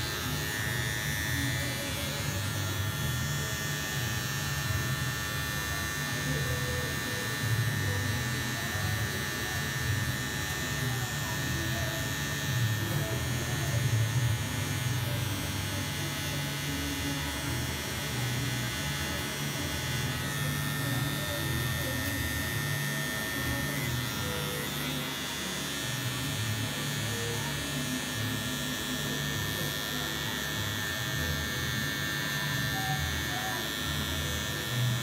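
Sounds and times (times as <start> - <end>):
electric hair clippers running: 0.0 - 35.0.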